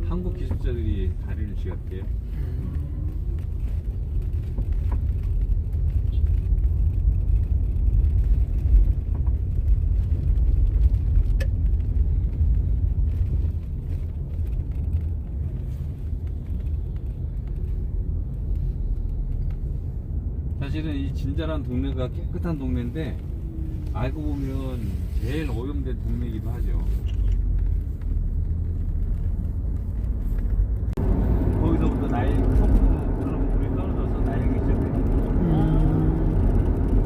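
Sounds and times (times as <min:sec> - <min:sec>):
car interior road rumble: 0:00.0 - 0:37.0.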